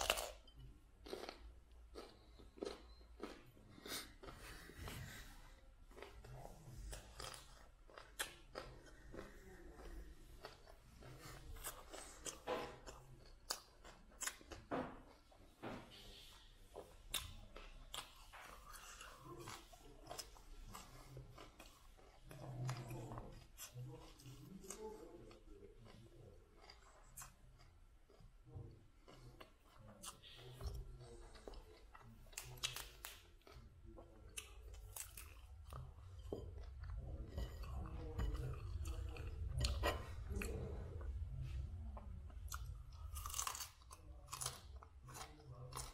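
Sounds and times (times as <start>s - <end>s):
person chewing crunchy vegetable: 0.0s - 15.3s, 16.7s - 45.9s.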